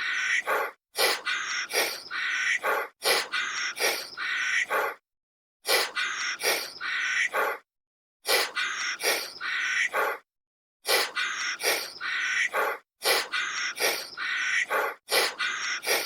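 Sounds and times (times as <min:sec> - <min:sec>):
animal harsh raspy calls: 0:00.0 - 0:05.0, 0:05.7 - 0:07.7, 0:08.3 - 0:10.3, 0:10.9 - 0:16.0.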